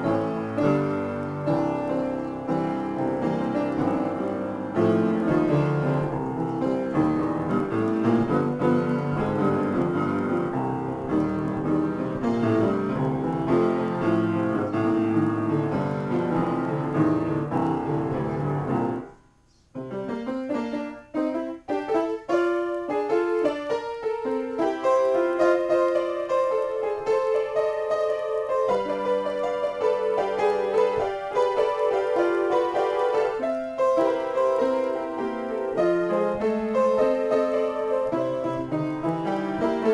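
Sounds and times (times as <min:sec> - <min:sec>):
upright piano playing chords: 0:00.0 - 0:39.9.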